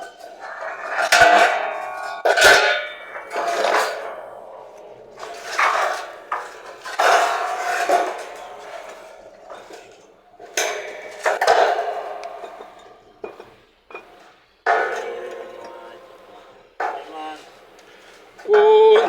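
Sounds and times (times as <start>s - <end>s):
metal clanging: 0.0s - 19.0s.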